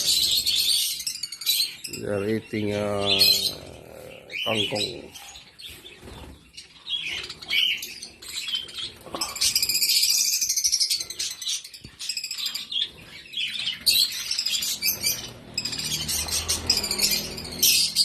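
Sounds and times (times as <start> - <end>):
parrots chirping and chattering: 0.0 - 18.0.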